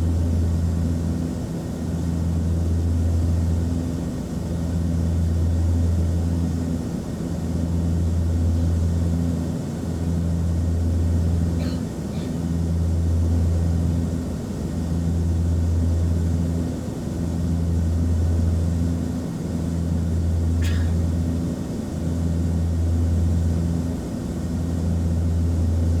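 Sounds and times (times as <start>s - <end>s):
turboprop engine cabin drone: 0.0s - 26.0s.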